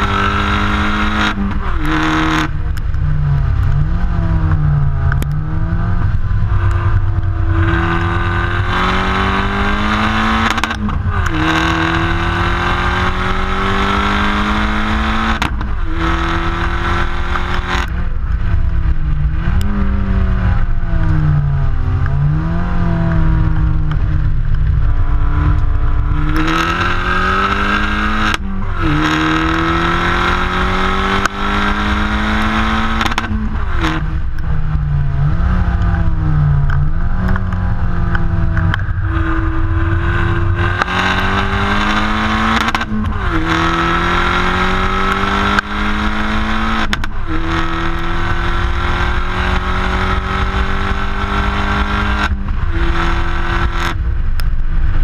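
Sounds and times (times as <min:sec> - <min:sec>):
car engine accelerating hard: 0:00.0 - 0:55.0
low rushing noise: 0:00.0 - 0:55.0.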